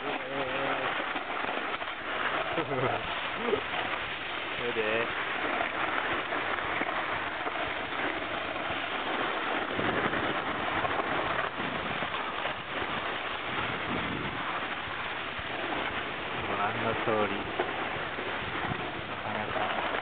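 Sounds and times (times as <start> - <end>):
snowboards scraping over snow: 0.0 - 20.0.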